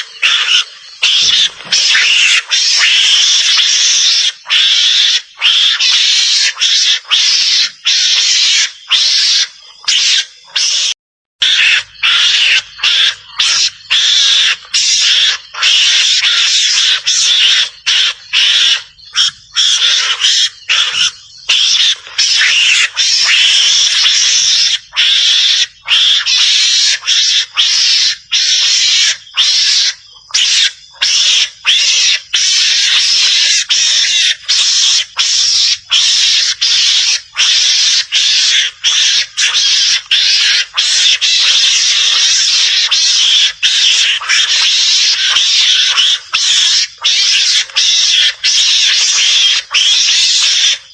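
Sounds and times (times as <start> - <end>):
mongoose call high chattering: 0.0 - 50.9.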